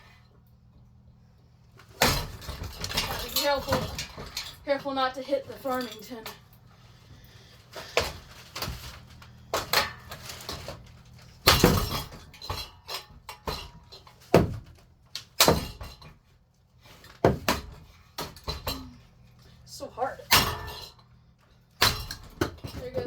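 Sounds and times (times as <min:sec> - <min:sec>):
rattling and breaking: 0:01.7 - 0:23.0.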